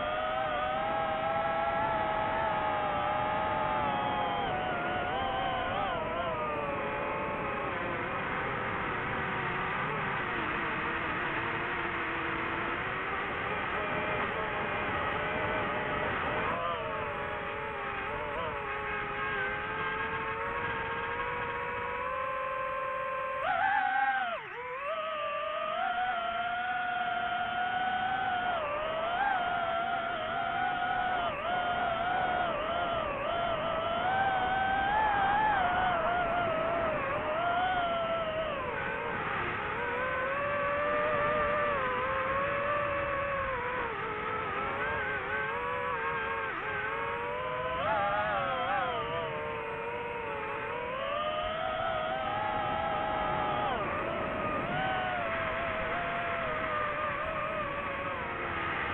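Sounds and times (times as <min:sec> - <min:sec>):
drone propellers whining: 0:00.0 - 0:58.9.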